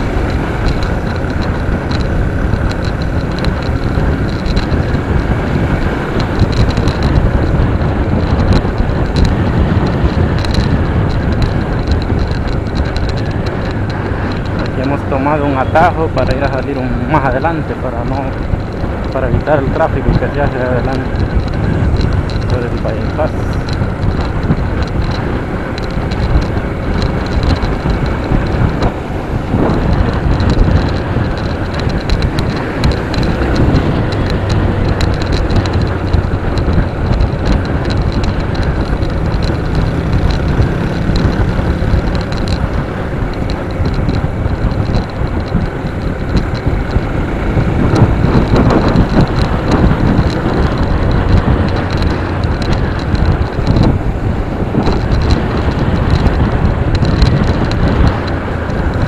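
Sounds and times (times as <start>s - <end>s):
motorcycle engine running: 0.0s - 59.0s
road rumble: 0.0s - 59.0s
wind noise on microphone: 0.0s - 59.0s.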